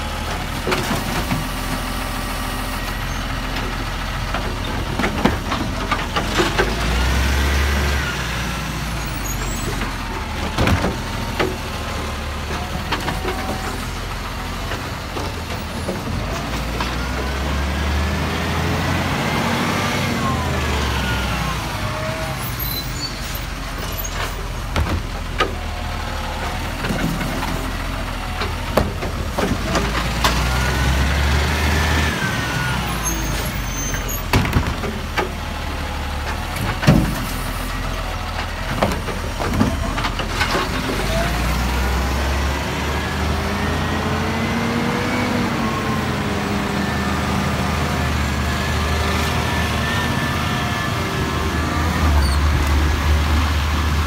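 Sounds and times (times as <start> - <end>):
garbage truck diesel engine revving: 0.0 - 54.0.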